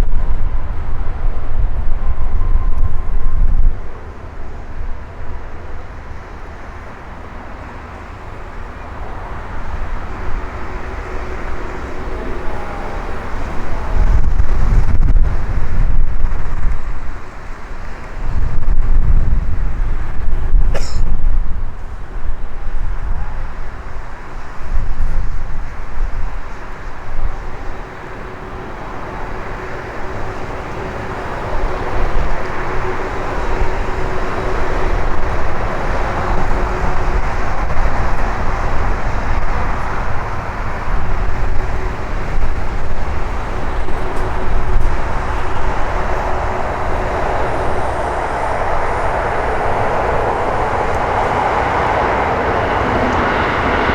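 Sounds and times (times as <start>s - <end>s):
jet engines rumbling: 0.0s - 53.9s
wind buffeting microphone: 0.0s - 53.9s.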